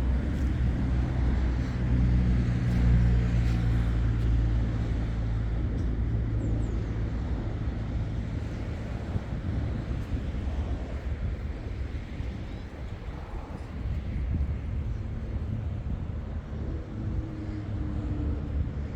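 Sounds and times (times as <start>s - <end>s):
engine rumble: 0.0s - 18.9s
wind noise: 0.0s - 18.9s.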